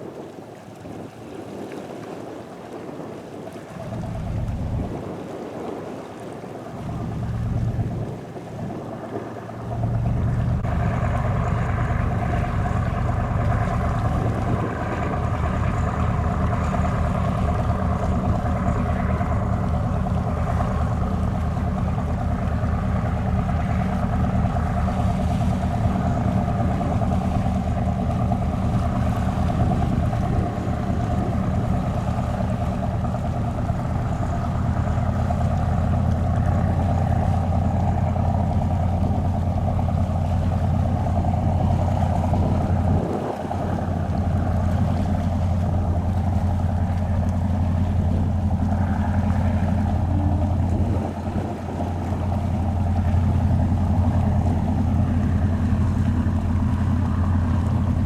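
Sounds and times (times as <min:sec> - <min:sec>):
boat engines droning: 0:00.0 - 0:58.0
steady hum: 0:09.6 - 0:58.0.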